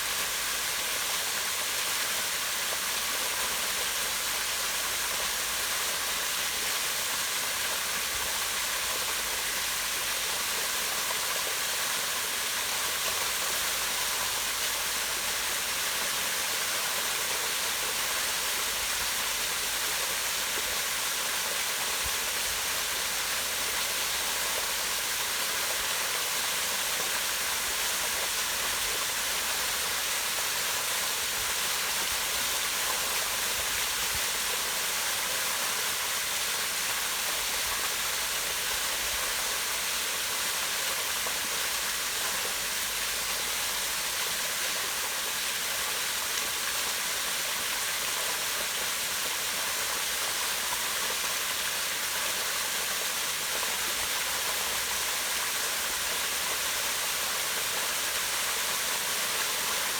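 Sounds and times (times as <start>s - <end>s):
small waterfall splashing into pond: 0.0s - 59.9s.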